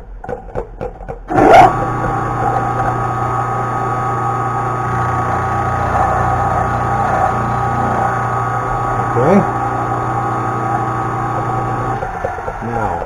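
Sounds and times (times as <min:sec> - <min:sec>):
milling machine cutting metal: 0:01.3 - 0:13.0.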